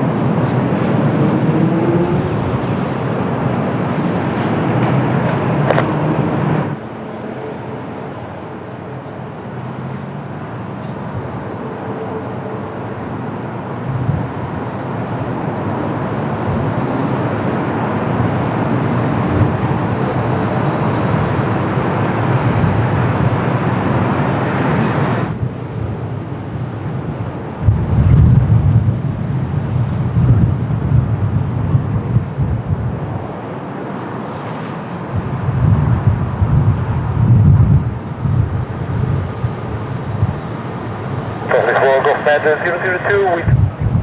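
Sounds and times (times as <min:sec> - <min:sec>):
jet airliner passing: 0:00.0 - 0:43.6.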